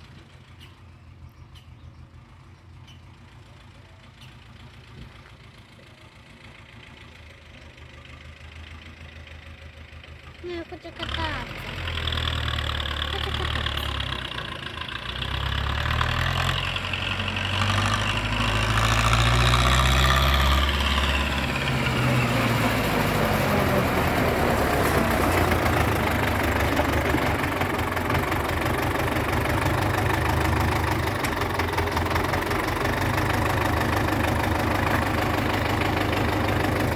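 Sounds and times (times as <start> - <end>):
tractor diesel engine droning: 0.0 - 36.9.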